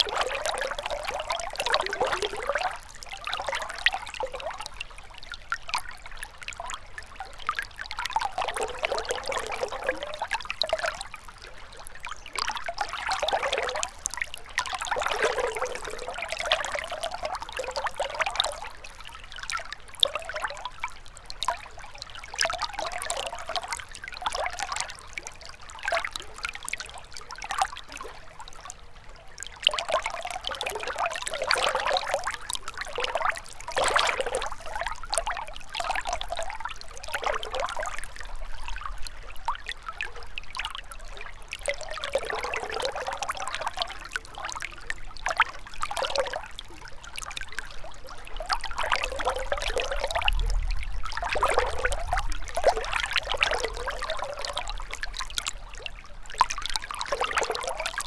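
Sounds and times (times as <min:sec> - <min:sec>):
water gurgling over stones: 0:00.0 - 0:58.0.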